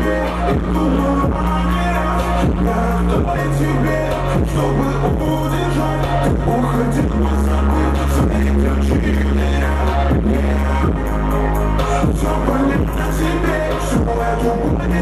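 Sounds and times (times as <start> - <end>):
loud dance music: 0.0 - 15.0.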